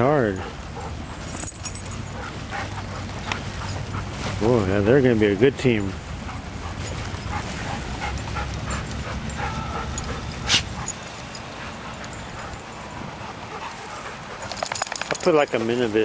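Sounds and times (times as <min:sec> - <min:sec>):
dogs yipping and whimpering: 0:00.2 - 0:04.3, 0:05.9 - 0:15.2.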